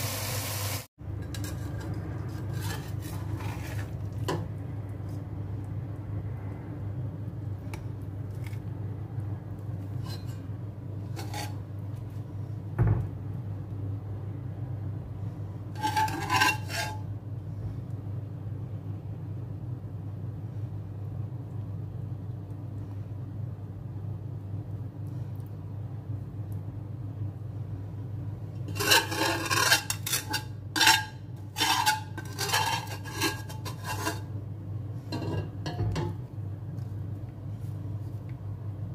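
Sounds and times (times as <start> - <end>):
steady low hum: 1.0 - 38.9.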